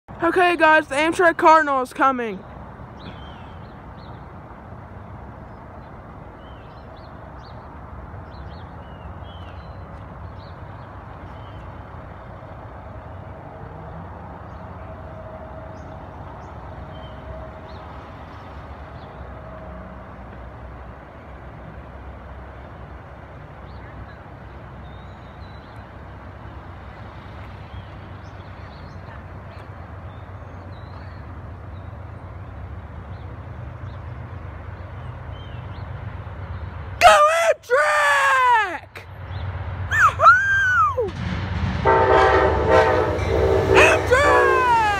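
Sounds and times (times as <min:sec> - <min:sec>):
distant train rumble: 0:00.1 - 0:37.1, 0:37.8 - 0:44.9.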